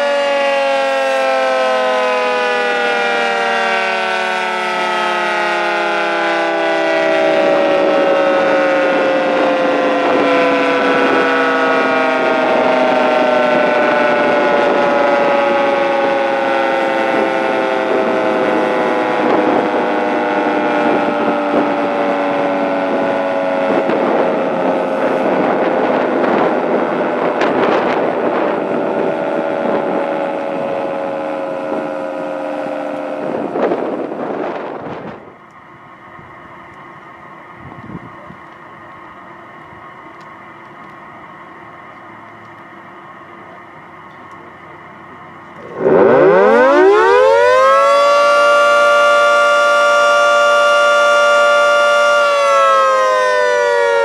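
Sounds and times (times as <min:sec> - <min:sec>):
siren winding down: 0:00.0 - 0:40.6, 0:43.4 - 0:54.0.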